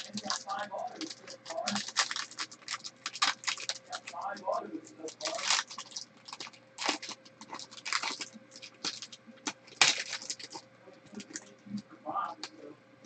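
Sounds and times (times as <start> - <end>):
foil pack crinkling and tearing: 0.0 - 4.4, 5.0 - 11.5.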